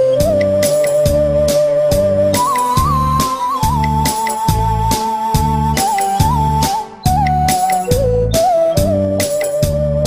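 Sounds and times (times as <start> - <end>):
steady drum beat: 0.2 - 9.8.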